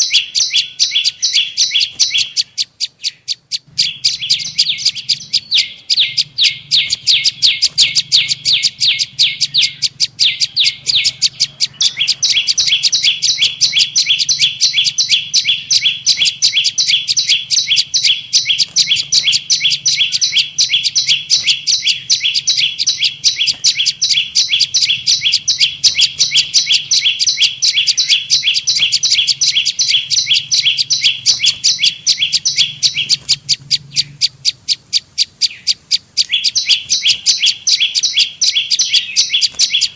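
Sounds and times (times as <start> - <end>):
bird chipping call: 0.0 - 39.9.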